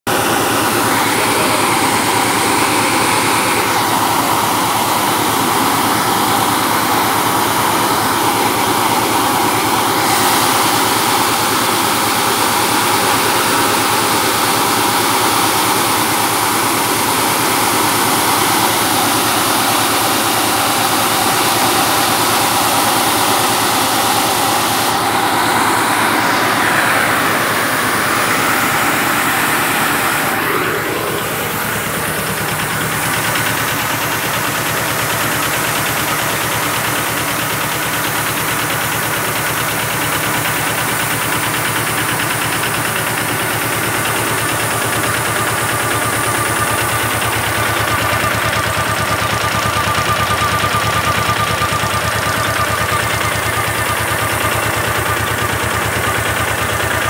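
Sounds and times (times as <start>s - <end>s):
fan blowing rush of air: 0.1s - 57.0s.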